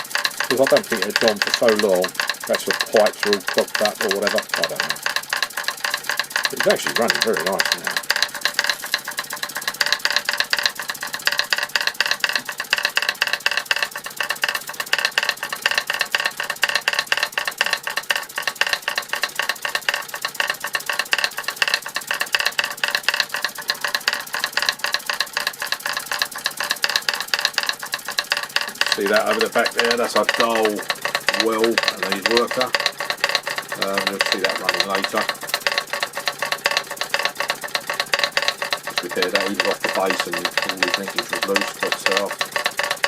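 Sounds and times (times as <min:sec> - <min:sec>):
clatter of small mechanical strikes: 0:00.0 - 0:43.0
toy steam engine whirring: 0:00.0 - 0:43.0.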